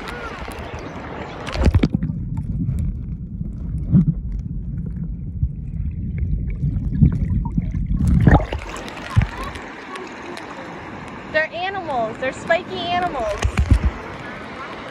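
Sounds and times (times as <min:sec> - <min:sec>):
muffled underwater rumble and gurgle: 0:00.0 - 0:11.4, 0:12.9 - 0:14.9.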